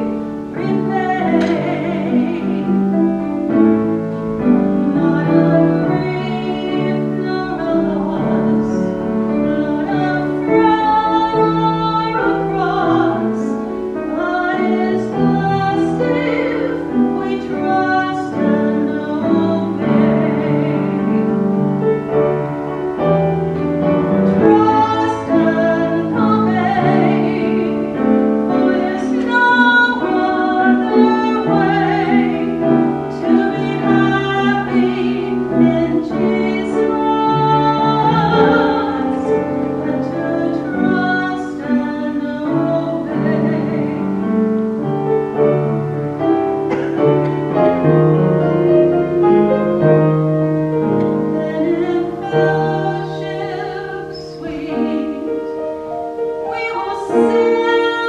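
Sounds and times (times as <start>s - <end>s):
woman singing classically: 0.0s - 3.7s, 4.4s - 22.8s, 23.6s - 44.6s, 50.7s - 58.0s
piano accompaniment: 0.0s - 58.0s.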